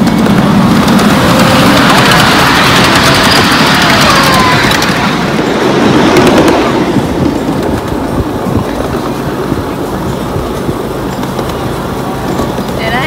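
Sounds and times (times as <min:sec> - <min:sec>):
miniature train running on track: 0:00.0 - 0:13.0
train cars clicking and rattling: 0:00.0 - 0:13.0
wind buffeting microphone: 0:00.0 - 0:13.0.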